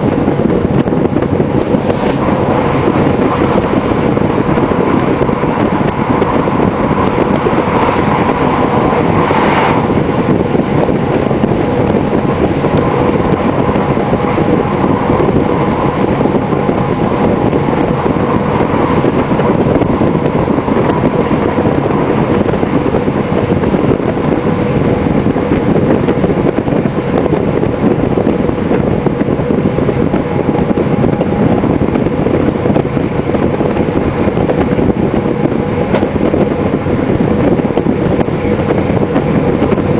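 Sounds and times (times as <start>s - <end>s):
diesel drone: 0.0s - 39.9s
wheels rushing on rail: 0.0s - 39.9s.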